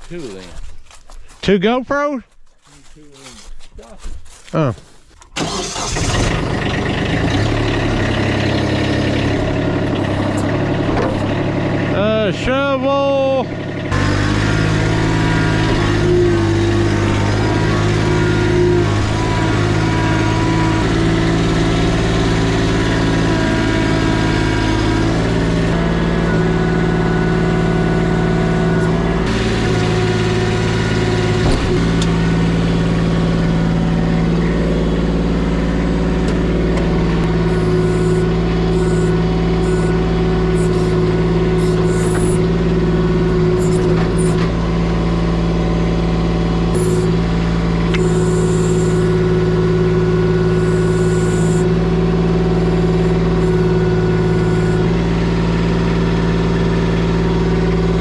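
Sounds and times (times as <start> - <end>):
diesel engine running: 0.0 - 2.0, 2.7 - 58.0.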